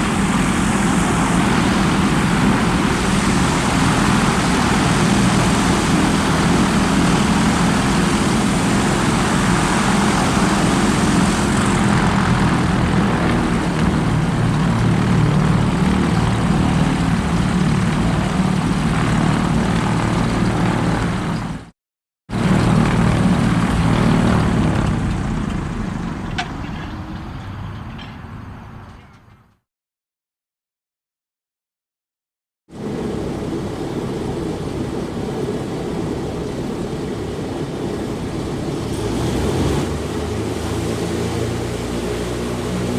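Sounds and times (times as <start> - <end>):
propeller engines droning: 0.0 - 21.7, 22.3 - 29.6, 32.7 - 42.9.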